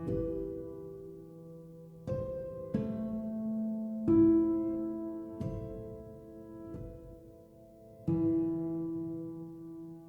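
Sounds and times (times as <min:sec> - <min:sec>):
soft piano notes: 0:00.0 - 0:10.0.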